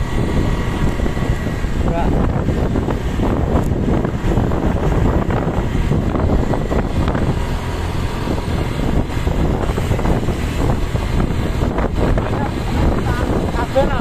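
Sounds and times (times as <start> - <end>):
road and vehicle noise: 0.0 - 14.0
wind buffeting microphone: 0.0 - 14.0.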